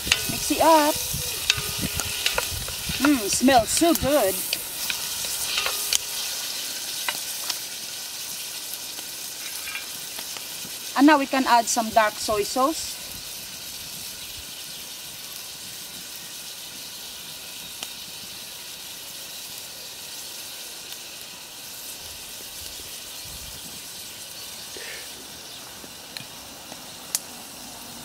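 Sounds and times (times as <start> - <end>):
stew sizzling in oil: 0.0 - 28.0.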